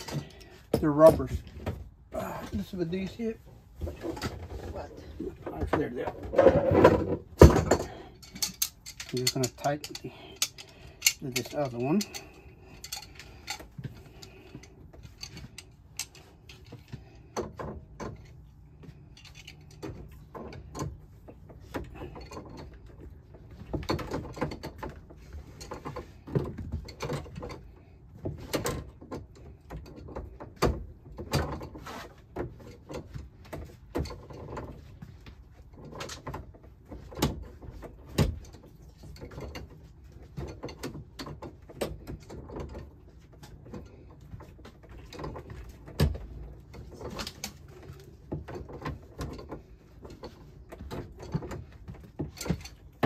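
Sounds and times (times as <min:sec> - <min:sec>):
handling knocks and rustles: 0:00.0 - 0:53.0.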